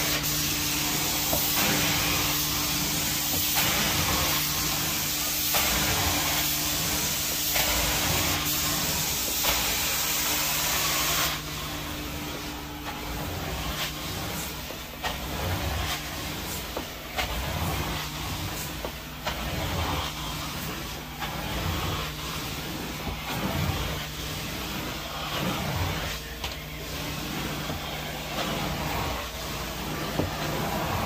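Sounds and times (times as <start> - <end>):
steam cleaning machine humming: 0.0 - 31.0.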